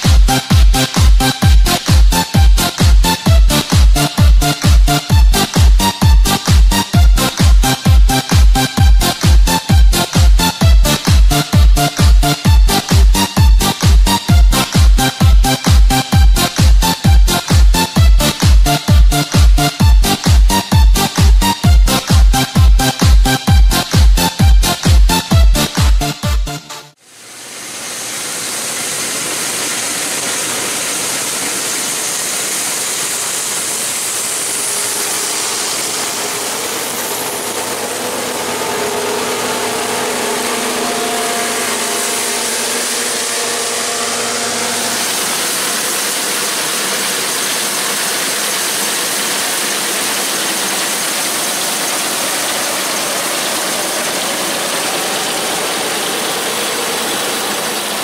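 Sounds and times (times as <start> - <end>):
combine harvesters running: 0.0 - 25.8, 27.0 - 58.0.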